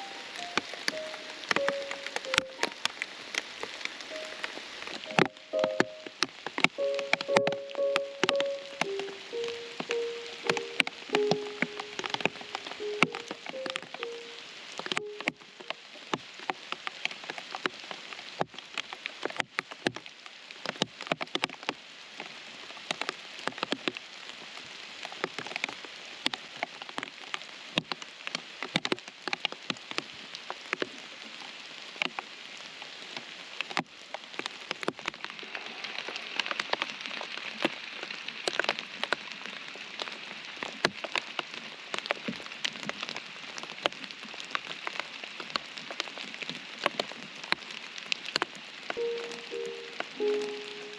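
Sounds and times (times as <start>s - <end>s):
raindrops tapping close by: 0.0s - 50.9s
steady rain falling: 0.0s - 50.9s.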